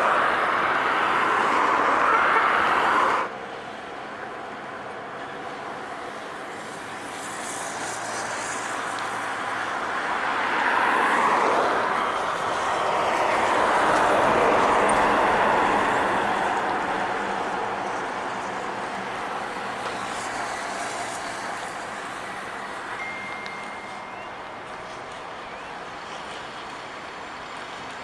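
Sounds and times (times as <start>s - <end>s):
trucks passing on highway: 0.0s - 28.0s.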